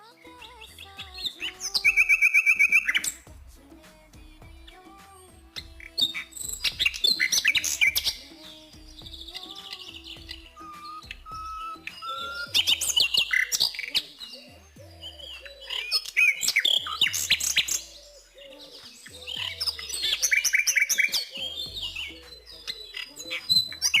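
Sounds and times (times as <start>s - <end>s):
birds chirping: 0.0s - 3.3s, 4.0s - 24.0s.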